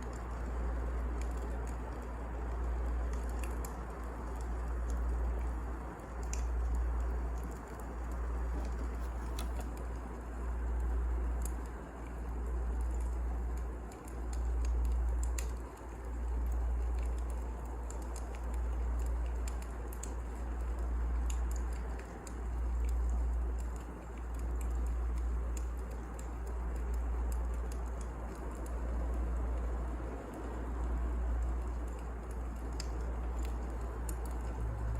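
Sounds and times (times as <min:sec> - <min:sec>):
burning logs crackling and popping: 0:00.0 - 0:34.9
low fire rumble: 0:00.0 - 0:34.9.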